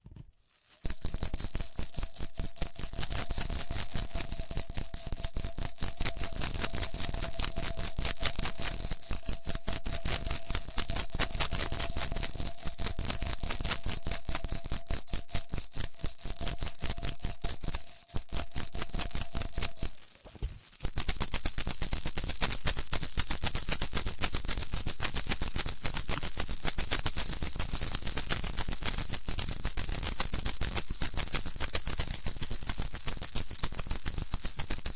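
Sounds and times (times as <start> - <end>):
maracas shaking: 0.0 - 34.9.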